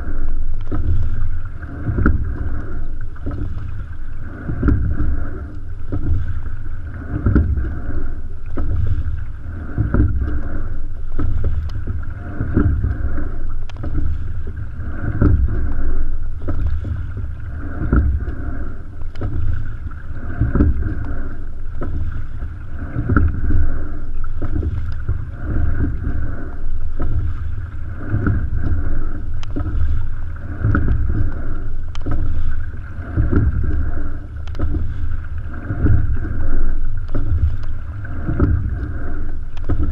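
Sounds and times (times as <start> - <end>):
oar stroke knock: 0.0 - 39.9
water rushing along boat hull: 0.0 - 39.9
wind rumble on microphone: 0.0 - 39.9.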